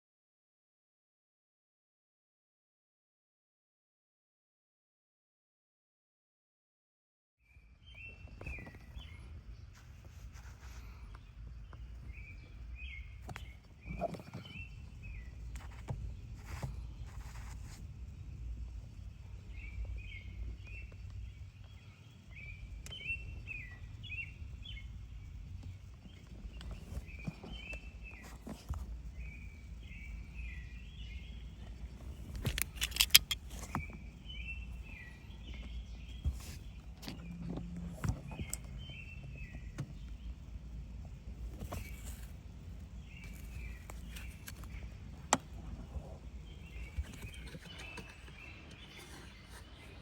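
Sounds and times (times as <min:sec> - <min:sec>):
small birds chirping: 0:07.5 - 0:50.0
low outdoor rumble: 0:07.8 - 0:50.0.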